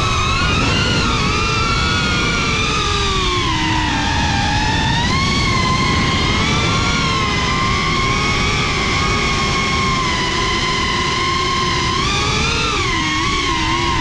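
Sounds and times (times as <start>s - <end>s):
drone propellers whining: 0.0s - 14.0s
low rumble of noise: 0.0s - 14.0s.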